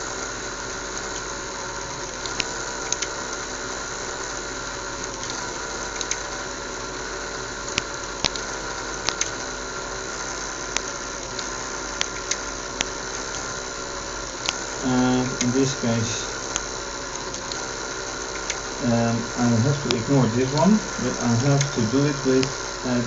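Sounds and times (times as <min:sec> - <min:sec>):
small electric motors humming: 0:00.0 - 0:23.0.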